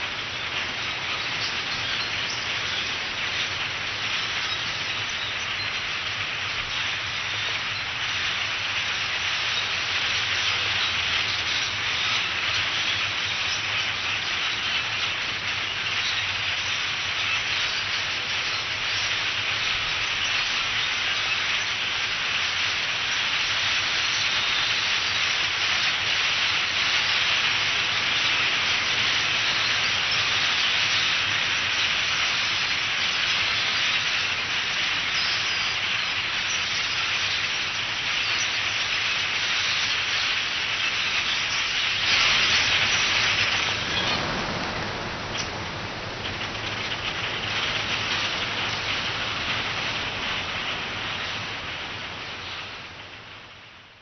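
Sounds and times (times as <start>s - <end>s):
starling flock chatter: 0.0s - 53.1s.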